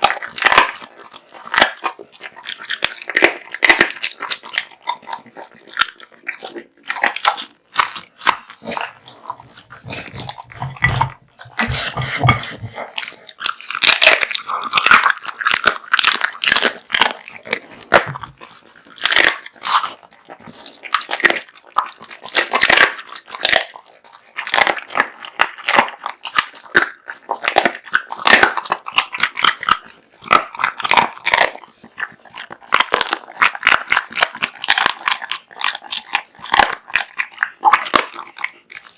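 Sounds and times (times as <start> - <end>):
bones cracking: 0.0 - 38.9
dog chewing meat and bones: 0.0 - 38.9.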